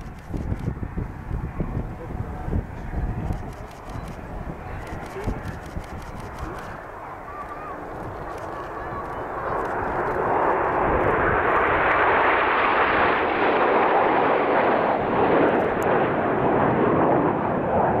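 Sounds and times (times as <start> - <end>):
jets flying past: 0.0 - 18.0.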